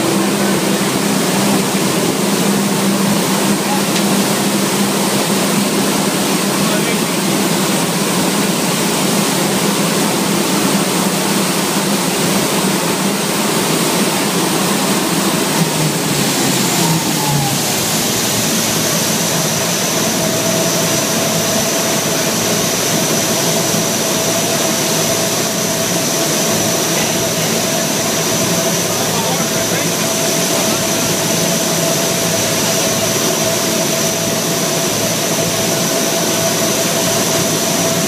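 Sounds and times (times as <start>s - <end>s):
turboprop engines running: 0.0s - 38.0s.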